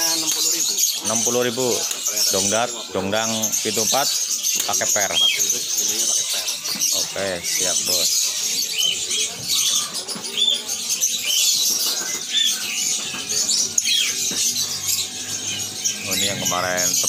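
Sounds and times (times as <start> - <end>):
faint murmured voices: 0.0 - 17.0
small birds chirping: 0.0 - 17.0.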